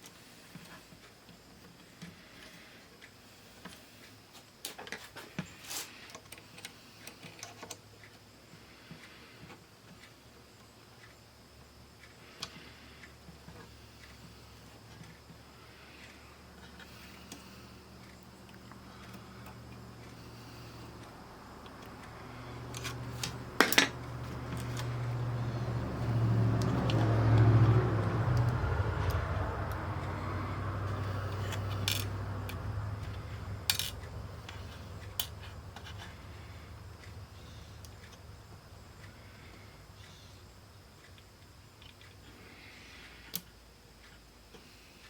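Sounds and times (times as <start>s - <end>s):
low hum and rustle: 0.0s - 45.0s.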